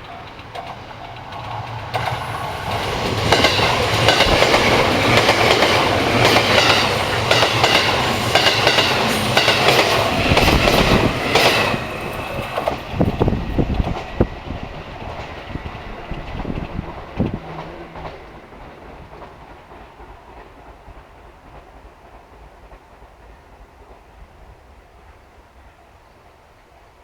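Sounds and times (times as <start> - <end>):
train passing: 0.0 - 27.0.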